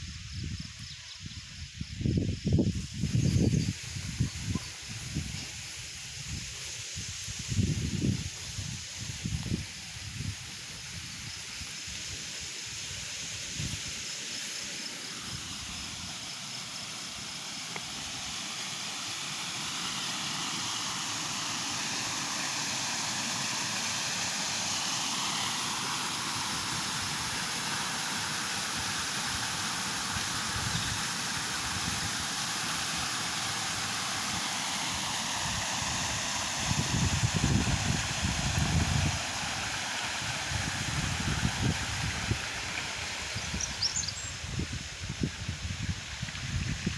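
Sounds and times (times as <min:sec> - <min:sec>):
stream water flowing: 0:03.5 - 0:46.9.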